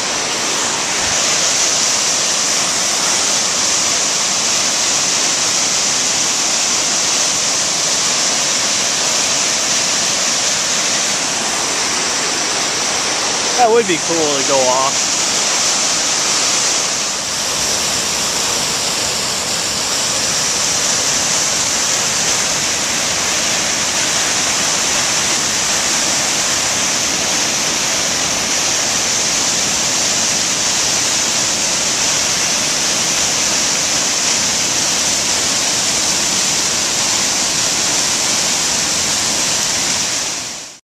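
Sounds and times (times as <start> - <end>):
waterfall rushing: 0.0 - 40.8.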